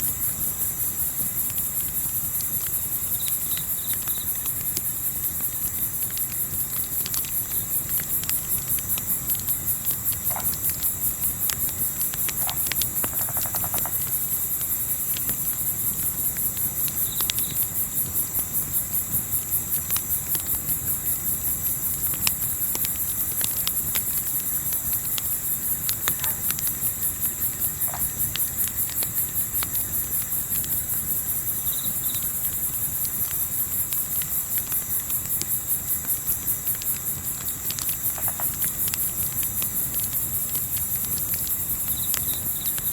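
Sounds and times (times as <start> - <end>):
crickets chirping: 0.0 - 42.9
wood fire crackling: 0.0 - 42.9.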